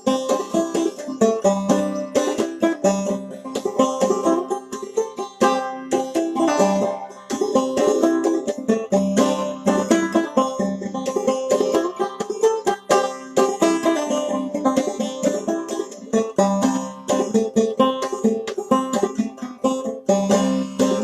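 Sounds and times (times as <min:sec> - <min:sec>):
clawhammer banjo playing: 0:00.0 - 0:21.0.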